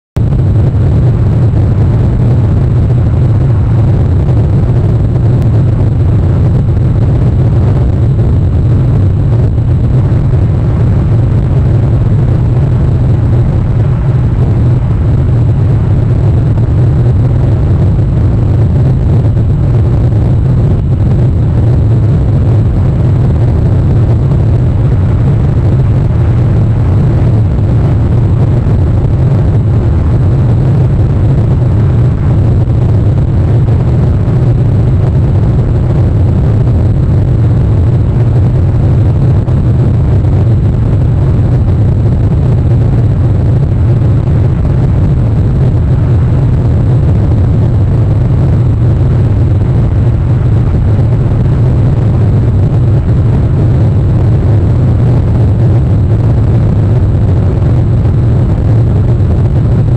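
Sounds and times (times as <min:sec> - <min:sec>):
faint high-pitched whine: 0:00.0 - 0:57.3
low rumble: 0:00.0 - 0:59.9.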